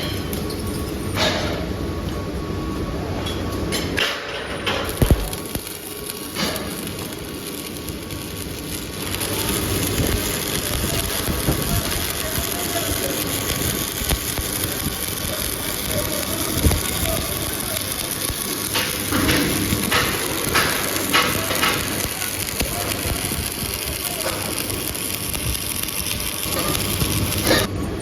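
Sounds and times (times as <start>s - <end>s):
workshop machinery noise: 0.0s - 28.0s.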